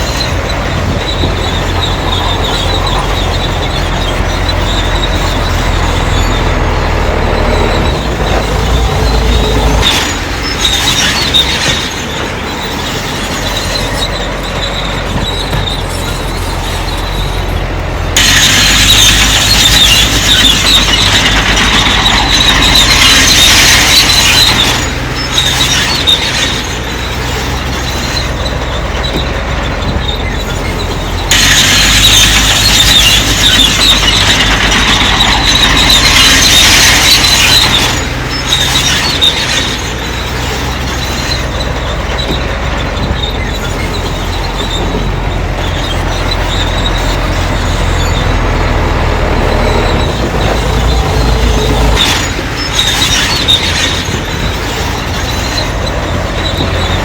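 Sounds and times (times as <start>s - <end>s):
bulldozer diesel engine running: 0.0s - 57.0s
metallic squeal of crawler tracks: 0.0s - 57.0s.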